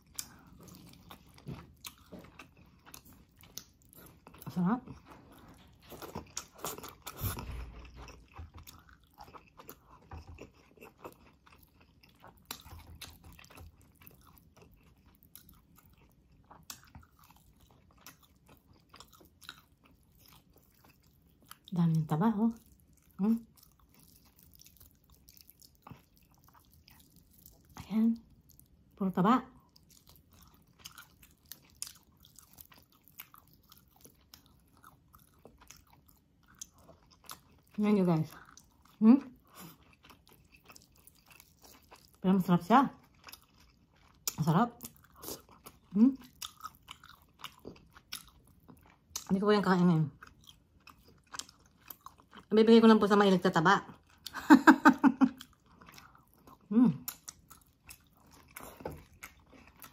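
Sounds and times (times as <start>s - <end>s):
person chewing: 0.0s - 21.7s, 22.6s - 29.0s, 29.6s - 42.2s, 43.0s - 49.4s, 50.2s - 52.5s, 53.9s - 59.9s.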